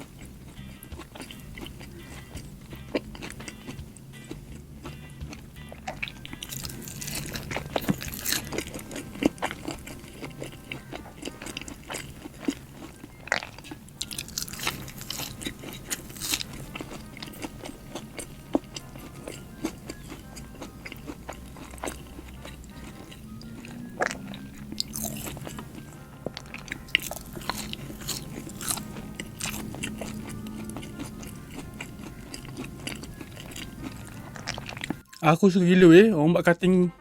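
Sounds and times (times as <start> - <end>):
crunchy chewing: 0.0 - 35.2.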